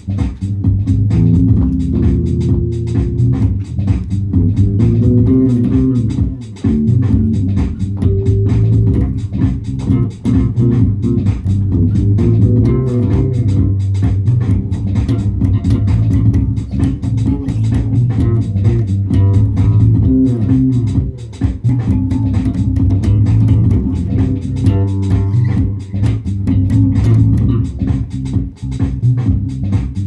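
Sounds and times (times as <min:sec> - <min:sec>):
low plucked string notes: 0:00.4 - 0:30.0.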